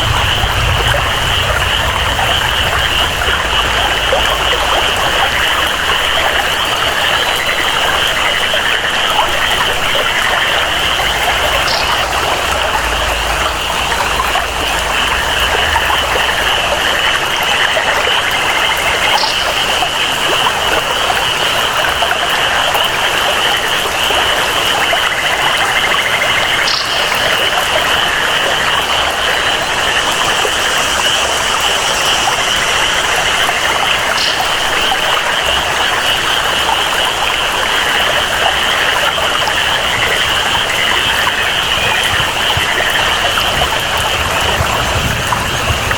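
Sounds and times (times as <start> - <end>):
flowing water: 0.0 - 45.9
jungle animal chorus: 0.0 - 45.9
steady rain: 0.0 - 45.9.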